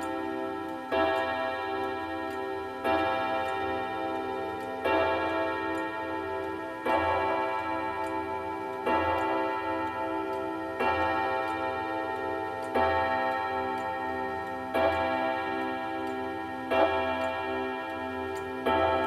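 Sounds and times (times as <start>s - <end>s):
clock striking on gong rods: 0.0s - 19.0s
pendulum clock ticking: 0.0s - 19.0s.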